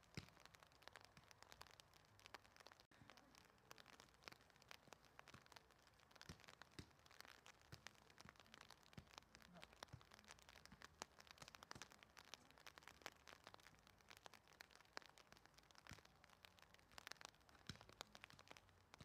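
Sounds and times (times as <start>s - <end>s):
faint ticks and clicks: 0.0s - 19.0s.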